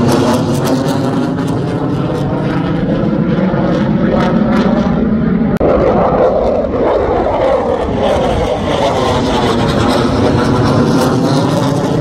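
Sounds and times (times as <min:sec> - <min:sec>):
fighter jet flying overhead: 0:00.0 - 0:12.0.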